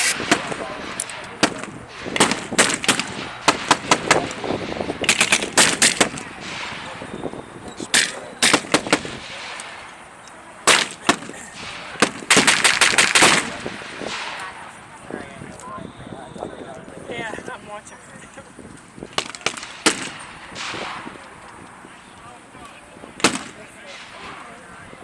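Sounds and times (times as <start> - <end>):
machine-gun bursts: 0.0 - 14.9, 19.1 - 25.0
rifle shots: 0.0 - 15.4, 17.4 - 25.0.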